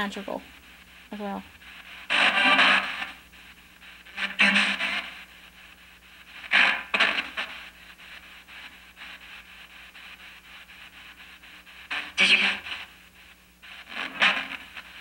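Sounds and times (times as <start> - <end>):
bursts of broadcast sound: 0.0 - 15.0
choppy radio static: 0.0 - 15.0.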